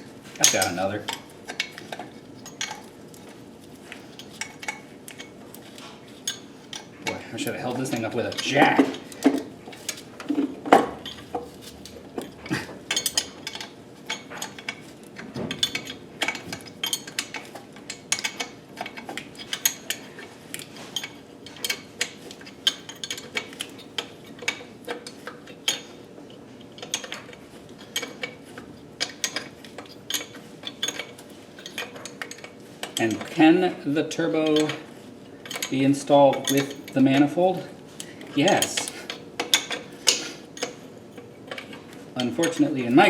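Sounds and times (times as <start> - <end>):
metal tools clinking on engine parts: 0.4 - 43.0.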